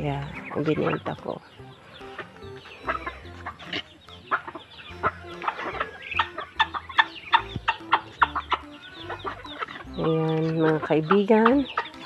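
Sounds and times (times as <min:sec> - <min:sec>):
birds pecking: 0:00.0 - 0:12.0
chickens clucking: 0:00.0 - 0:12.0.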